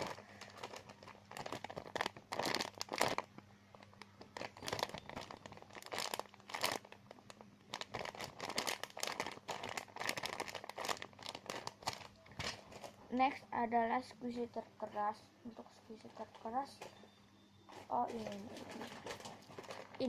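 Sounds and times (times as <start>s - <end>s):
plastic crinkling and rustling: 0.0s - 13.4s, 14.8s - 17.1s, 17.7s - 20.0s.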